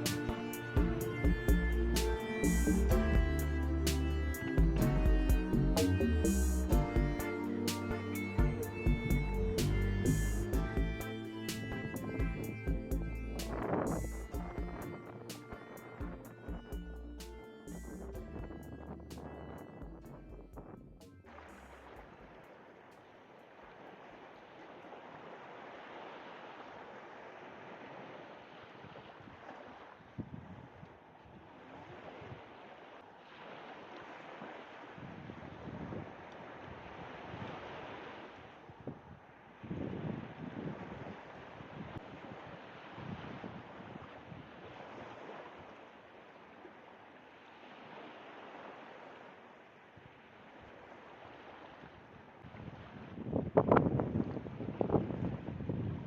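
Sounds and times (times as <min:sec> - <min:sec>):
sea waves washing ashore: 0:00.0 - 0:20.3, 0:21.3 - 0:56.0.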